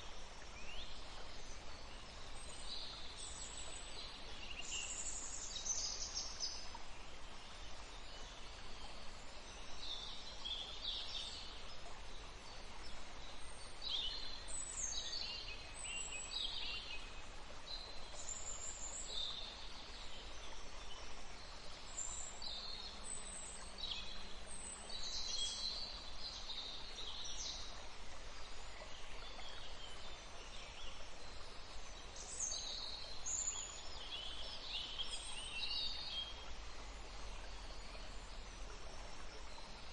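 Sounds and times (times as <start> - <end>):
outdoor ambience hiss: 0.0 - 39.9.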